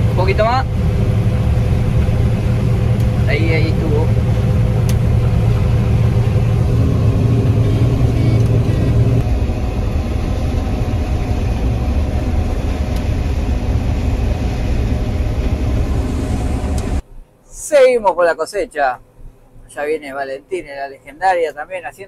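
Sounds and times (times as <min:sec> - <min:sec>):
combine harvester droning: 0:00.0 - 0:17.9.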